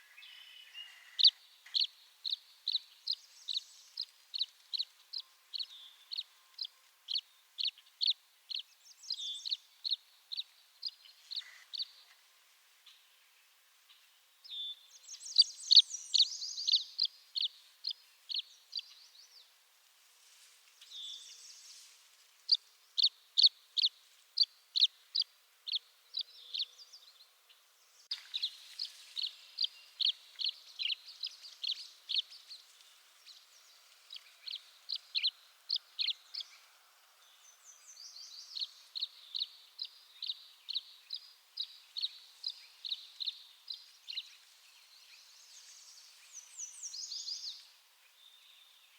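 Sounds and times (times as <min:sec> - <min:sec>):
bird chirping: 0:00.0 - 0:12.2, 0:12.8 - 0:19.5, 0:20.8 - 0:48.9.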